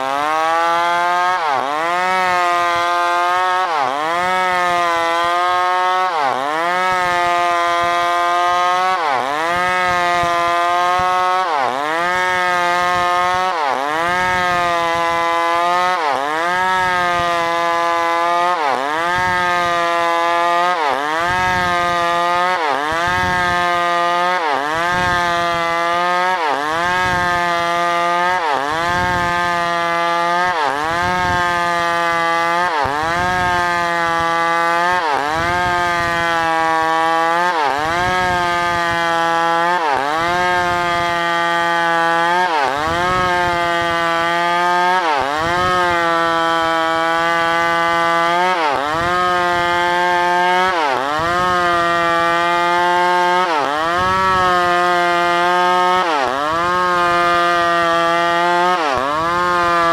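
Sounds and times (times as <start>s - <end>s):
chainsaw sawing wood: 0.0s - 59.9s.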